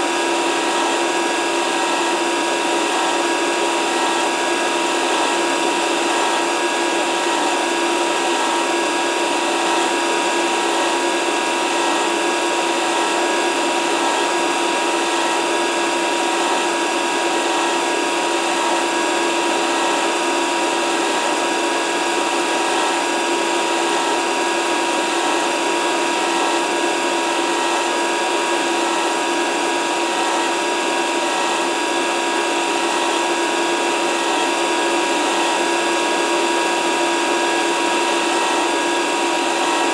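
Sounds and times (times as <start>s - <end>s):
grinder whining: 0.0s - 39.9s.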